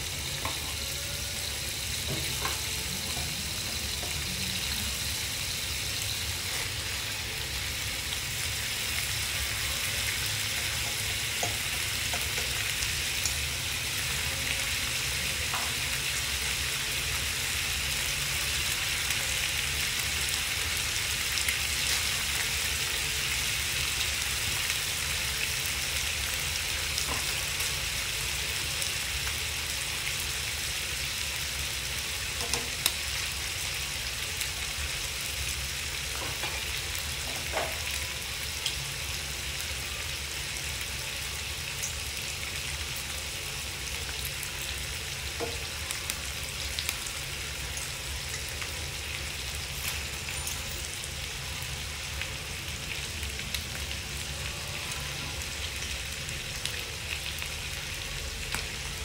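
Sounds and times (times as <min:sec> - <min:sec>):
meat sizzling in a frying pan: 0:00.0 - 0:59.0.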